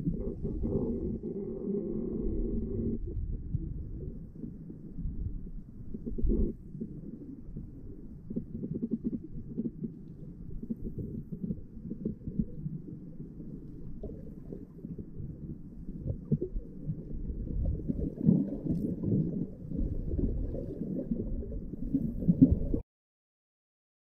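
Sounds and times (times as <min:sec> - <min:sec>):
muffled underwater river rumble: 0:00.0 - 0:22.8.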